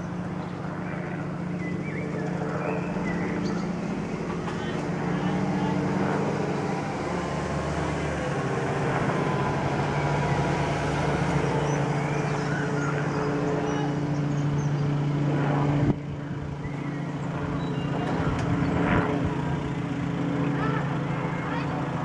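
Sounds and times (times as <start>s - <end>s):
helicopter droning overhead: 0.0s - 22.0s.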